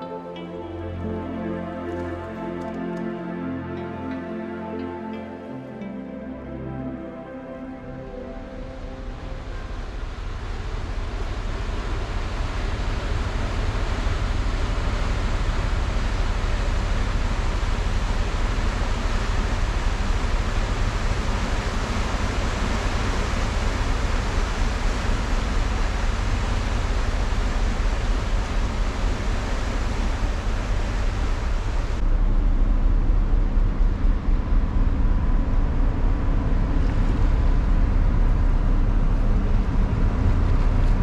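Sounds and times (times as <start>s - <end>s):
ship engine rumble: 7.4s - 41.0s.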